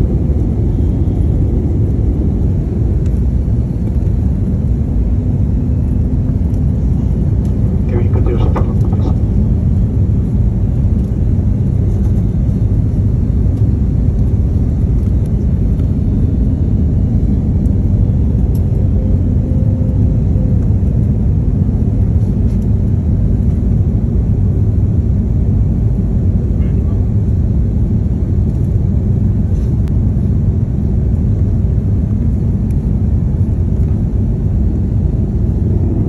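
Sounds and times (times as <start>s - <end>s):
airliner cabin rumble: 0.0s - 36.0s.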